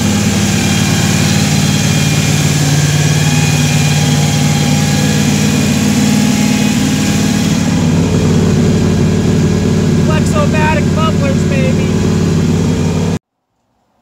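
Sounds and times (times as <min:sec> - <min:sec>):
truck engine idling: 0:00.0 - 0:13.2.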